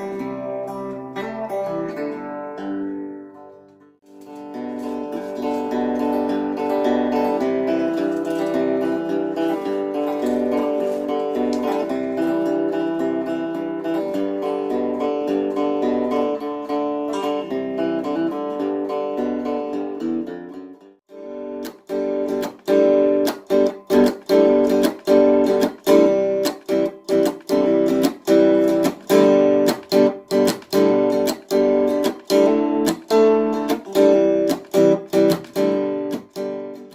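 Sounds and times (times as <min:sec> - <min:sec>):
electric guitar chords ringing: 0:00.0 - 0:36.9
strummed guitar chords: 0:00.0 - 0:36.9.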